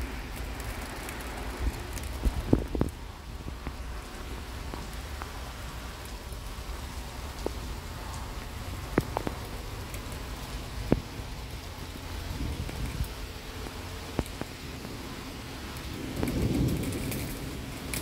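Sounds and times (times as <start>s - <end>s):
steady rain hissing: 0.0s - 18.0s.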